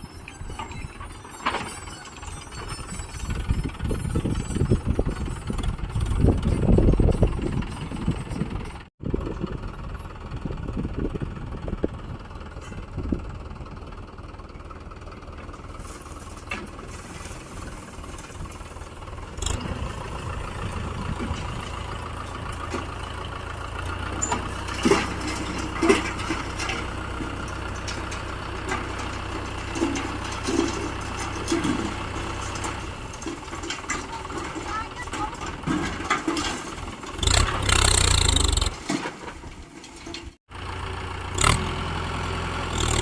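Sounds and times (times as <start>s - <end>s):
metal clanks: 0.0s - 8.9s, 14.5s - 40.4s
heavy diesel engine running: 0.0s - 43.0s.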